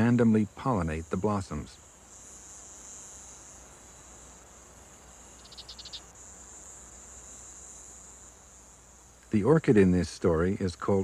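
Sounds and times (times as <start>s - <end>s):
high-pitched insect chorus: 0.0s - 11.0s
short pulsed insect chirp: 0.0s - 11.0s.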